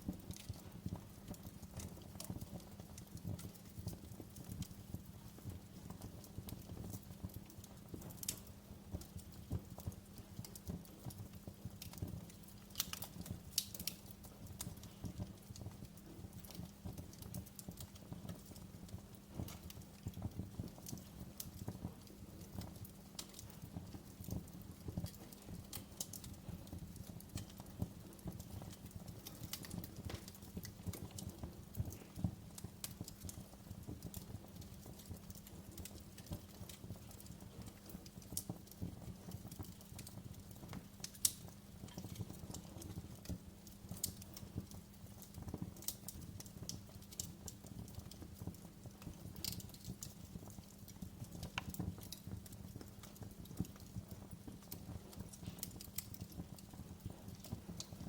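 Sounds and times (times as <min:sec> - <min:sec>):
wood fire crackling: 0:00.0 - 0:58.0
sharp pops of fire: 0:00.1 - 0:58.0.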